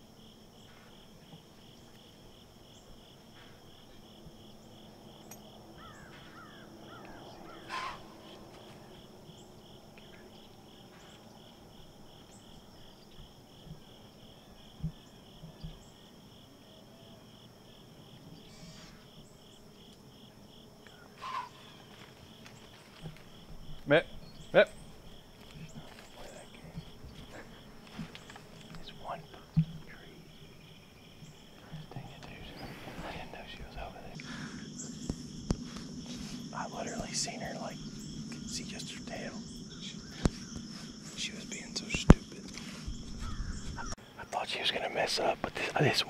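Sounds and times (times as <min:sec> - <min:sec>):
crickets chirping: 0:00.0 - 0:46.0
high insect drone: 0:00.0 - 0:46.0.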